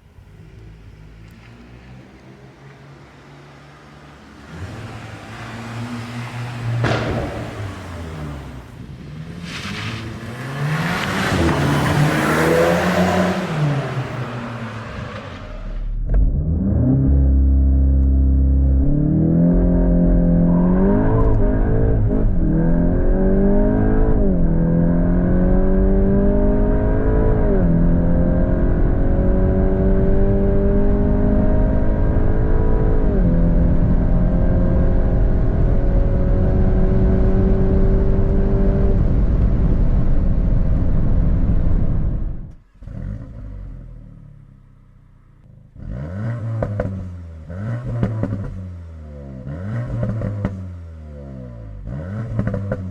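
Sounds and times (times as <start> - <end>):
car engine accelerating through gears: 0.2 - 44.5, 45.4 - 52.9.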